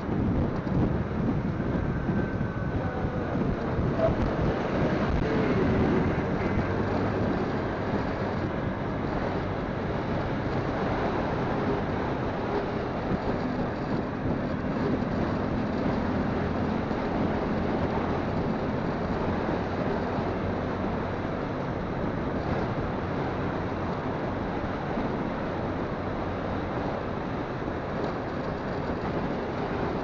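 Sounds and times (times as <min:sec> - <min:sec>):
motorcycle engine hum: 0:00.0 - 0:30.0
wind rush on microphone: 0:00.0 - 0:30.0.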